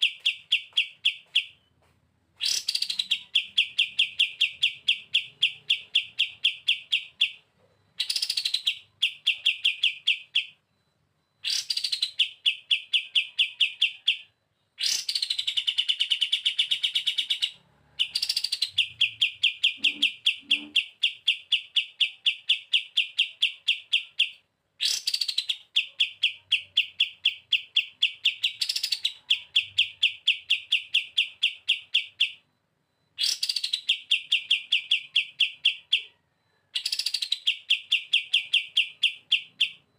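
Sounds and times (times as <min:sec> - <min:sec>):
songbird trilling: 0:00.0 - 0:01.7, 0:02.4 - 0:10.6, 0:11.4 - 0:32.4, 0:33.2 - 0:39.9.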